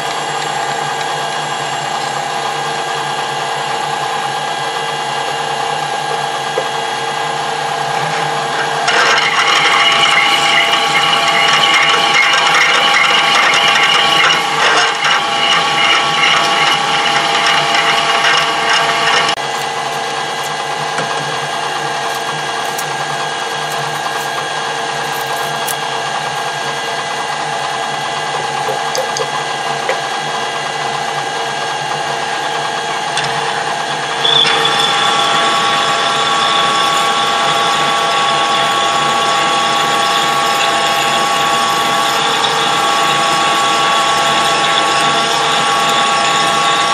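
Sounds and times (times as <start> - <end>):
lathe gear train whining: 0.0 - 46.9.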